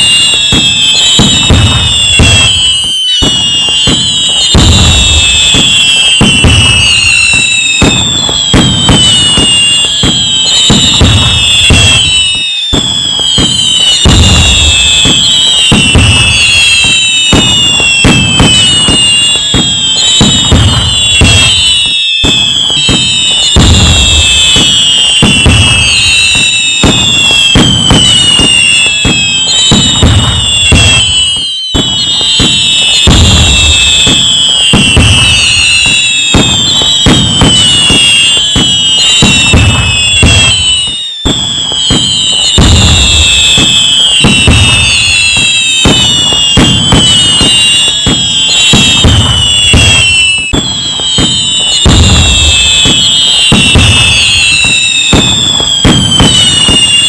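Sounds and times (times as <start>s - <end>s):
fireworks booms and crackling: 0.0s - 57.0s
fireworks whistles falling in pitch: 0.0s - 57.0s.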